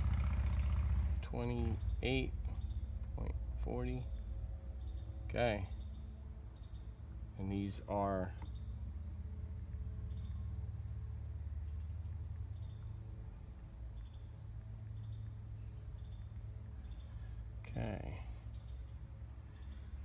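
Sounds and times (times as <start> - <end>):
high-pitched insect chorus: 0.0 - 20.0
low steady rumble: 0.0 - 20.0.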